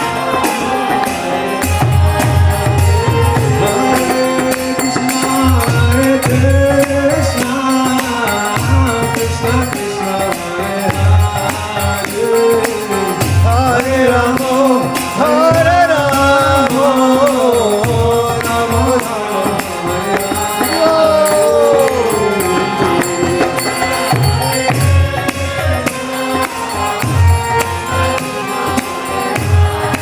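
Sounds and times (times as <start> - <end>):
jingling percussion: 0.0 - 30.0.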